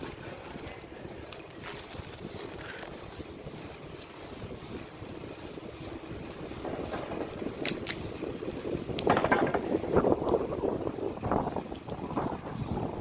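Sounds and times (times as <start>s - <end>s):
bicycle rattling over street: 0.0s - 13.0s
wind rumbling on microphone: 0.0s - 13.0s.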